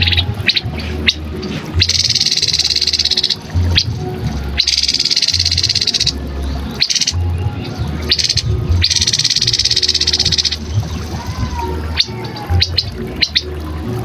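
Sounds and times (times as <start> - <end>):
bird singing fast trills: 0.0 - 11.1, 11.9 - 13.6.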